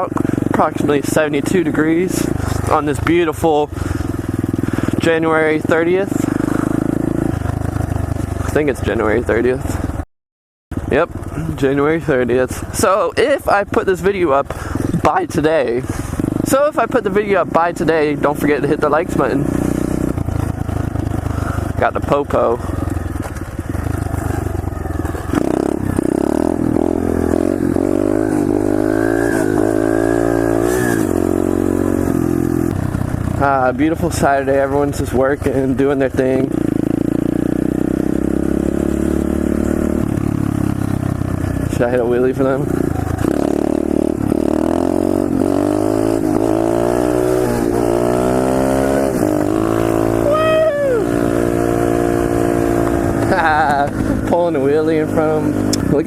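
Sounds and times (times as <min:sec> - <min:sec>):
motorbike engine revving: 0:00.0 - 0:10.0, 0:10.7 - 0:56.0.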